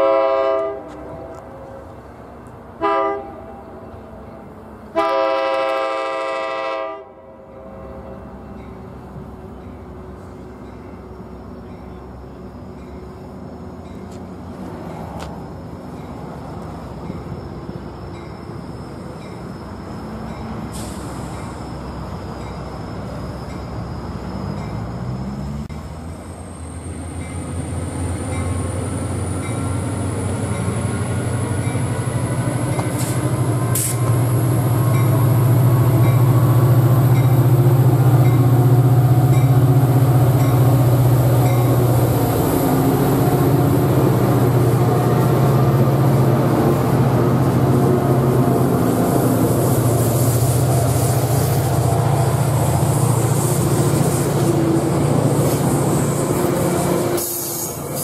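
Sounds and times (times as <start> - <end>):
diesel locomotive engine droning: 0.0 - 58.0
passenger cars rumbling on rails: 0.0 - 58.0.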